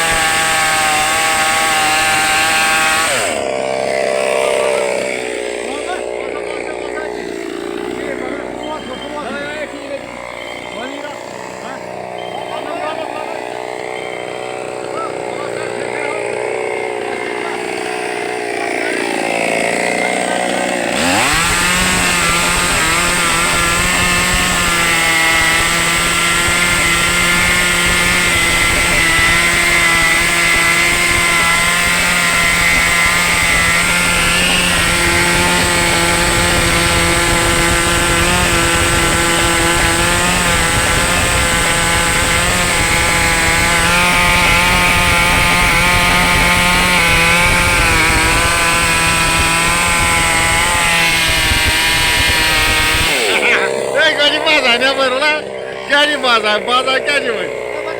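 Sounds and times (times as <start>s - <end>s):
chainsaw engine revving: 0.0s - 57.9s.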